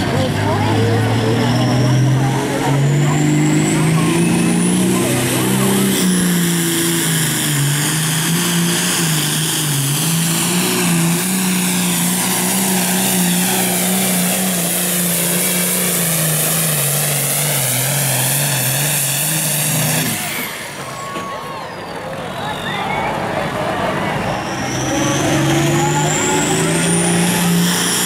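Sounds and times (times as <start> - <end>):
diesel engine at full throttle: 0.0 - 28.0.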